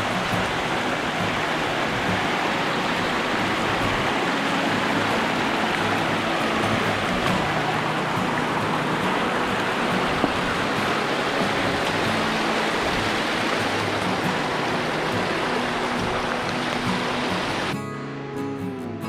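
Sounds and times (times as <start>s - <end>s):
stream water rushing: 0.0s - 17.8s.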